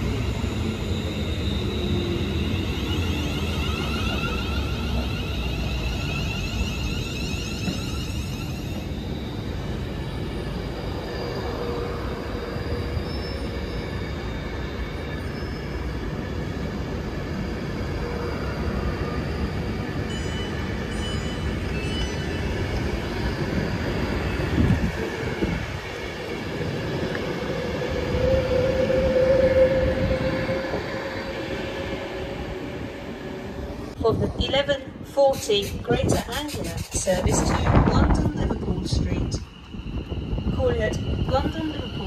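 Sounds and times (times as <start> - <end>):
rising tone of approaching train: 0.0 - 42.0
train wheels rumbling on rail: 0.0 - 42.0.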